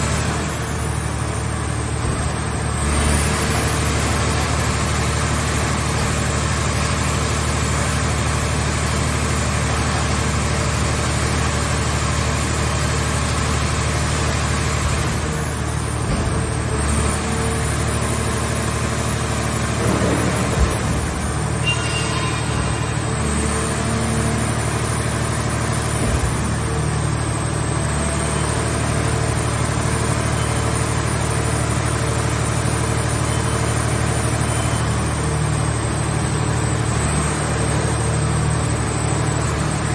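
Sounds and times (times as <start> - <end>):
engine and hydraulic unit droning: 0.0 - 39.9.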